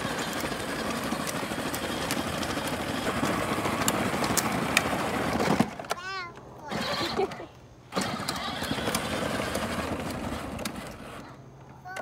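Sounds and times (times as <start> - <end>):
toy car rolling on asphalt: 0.0 - 6.0, 6.7 - 12.0.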